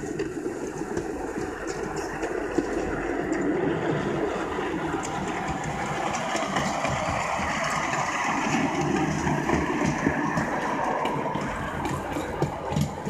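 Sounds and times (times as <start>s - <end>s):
miniature train running on rails: 0.0s - 13.0s.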